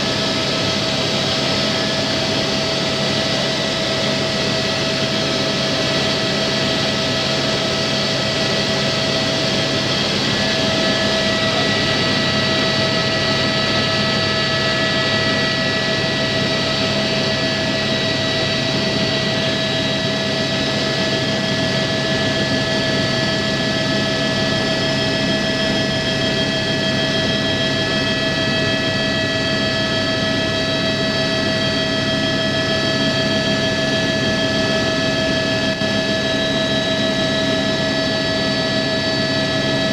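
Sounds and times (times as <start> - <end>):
helicopter drone from cabin: 0.0 - 39.9
steady high whine: 0.0 - 39.9.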